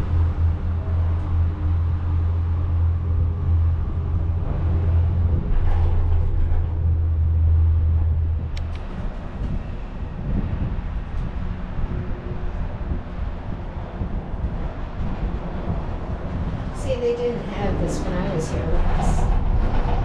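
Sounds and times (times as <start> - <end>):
gondola cabin rumble: 0.0 - 20.0.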